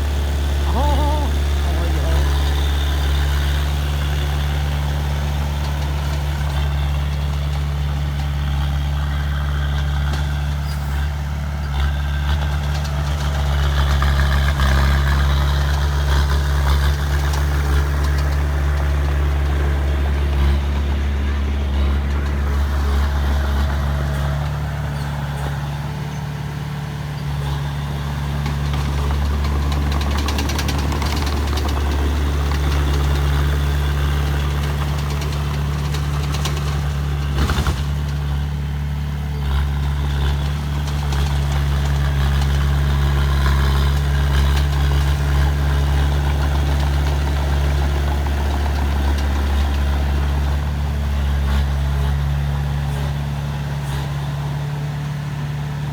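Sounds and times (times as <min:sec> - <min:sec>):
diesel engine humming: 0:00.0 - 0:55.9.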